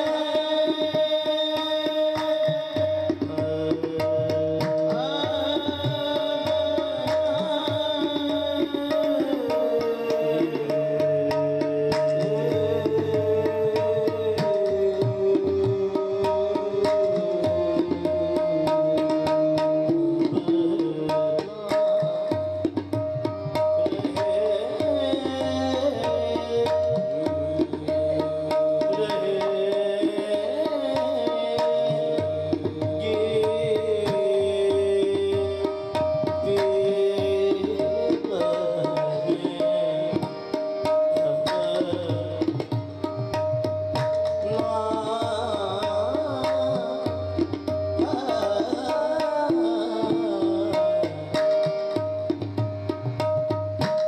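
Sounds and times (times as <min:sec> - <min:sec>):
harmonium melody over drone: 0:00.0 - 0:54.0
tabla strokes: 0:00.0 - 0:54.0.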